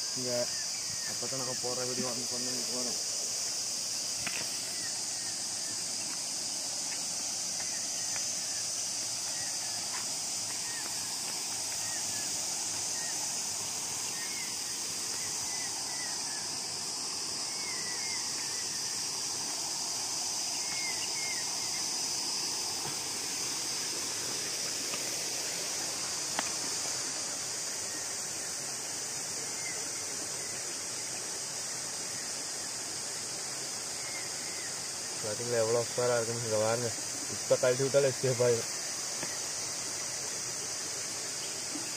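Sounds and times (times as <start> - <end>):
insect chorus droning: 0.0 - 41.9.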